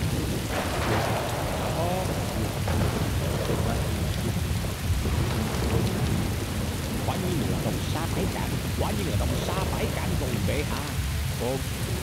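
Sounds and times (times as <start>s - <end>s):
heavy rain: 0.0s - 12.0s
low rumble of thunder: 0.0s - 12.0s.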